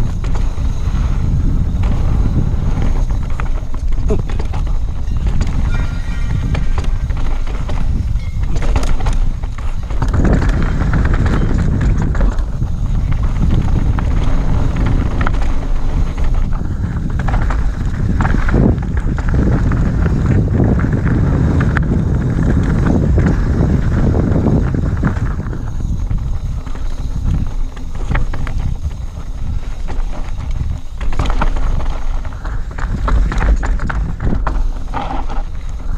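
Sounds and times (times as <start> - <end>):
bike chain and frame rattling: 0.0 - 35.9
tyres crunching over gravel: 0.0 - 35.9
wind rumble on microphone: 0.0 - 35.9.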